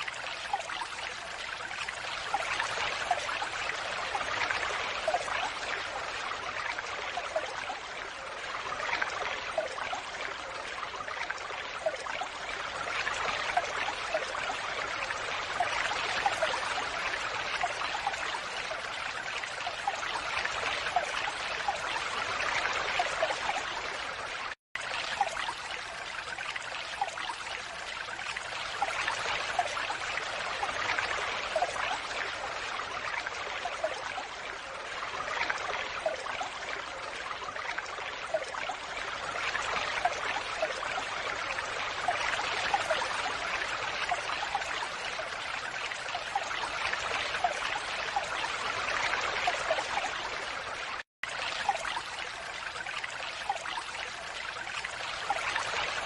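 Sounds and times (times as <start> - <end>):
falling water rushing and splashing: 0.0 - 56.0.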